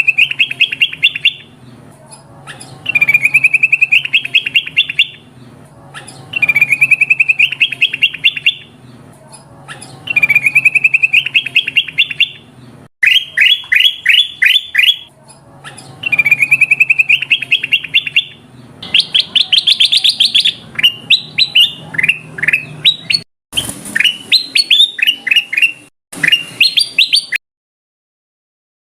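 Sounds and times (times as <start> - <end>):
bulbul chirping song: 0.0 - 27.4.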